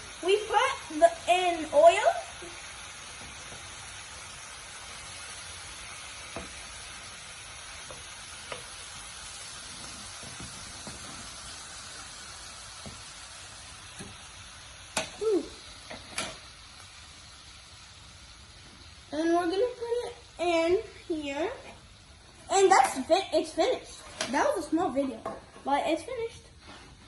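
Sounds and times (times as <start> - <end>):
oil sizzling: 0.0 - 27.0.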